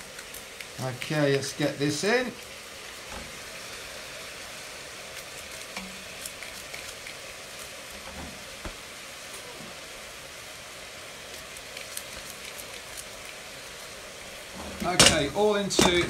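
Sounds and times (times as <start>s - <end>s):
onions sizzling in a pot: 0.0s - 16.0s.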